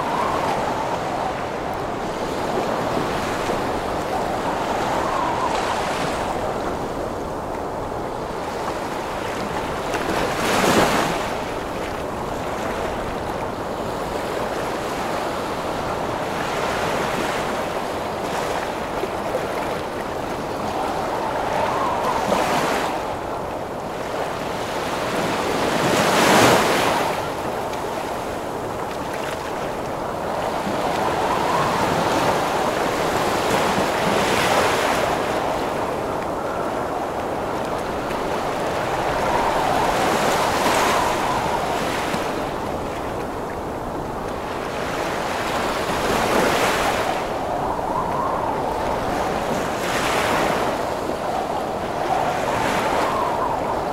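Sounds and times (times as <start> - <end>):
sea waves breaking: 0.0 - 53.9
storm wind howling: 0.0 - 53.9.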